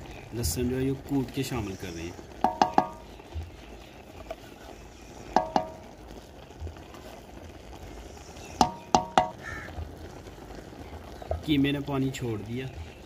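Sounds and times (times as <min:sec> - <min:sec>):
hiss of simmering food: 0:00.0 - 0:13.0.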